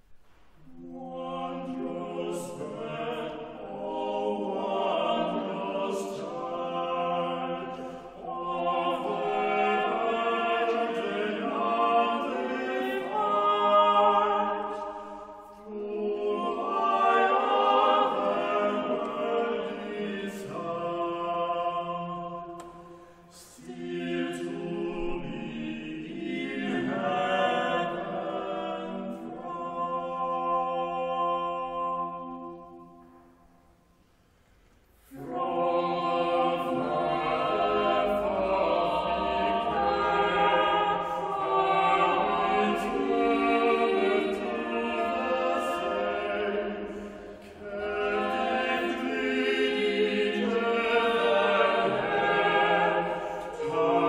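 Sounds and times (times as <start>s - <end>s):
a cappella vocal ensemble singing: 0.2s - 54.0s.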